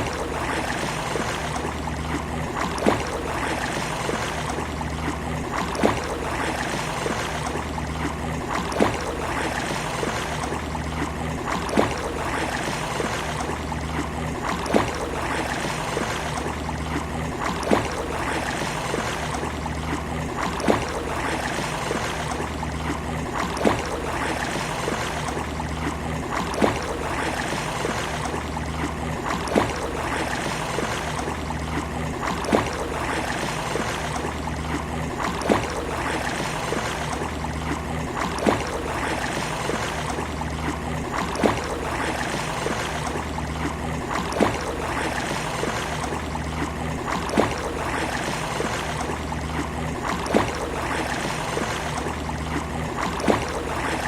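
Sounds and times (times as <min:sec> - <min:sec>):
sea waves washing on beach: 0:00.0 - 0:54.0.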